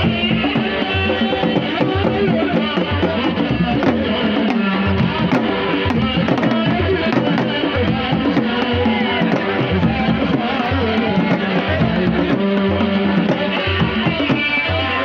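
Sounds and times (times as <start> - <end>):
drums and percussion music: 0.0 - 15.0.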